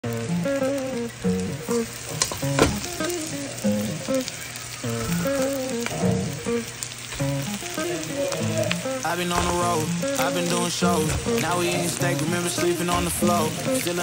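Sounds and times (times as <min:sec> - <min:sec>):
onions and peppers sizzling in a pan: 0:00.0 - 0:14.0.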